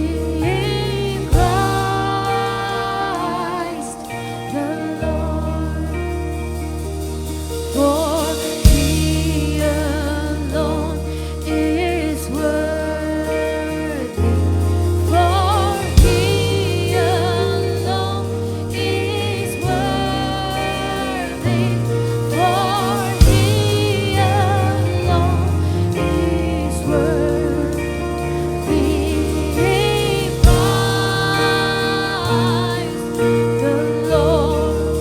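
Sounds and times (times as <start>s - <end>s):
held bass notes: 0.0s - 35.0s
person singing with vibrato: 0.0s - 35.0s.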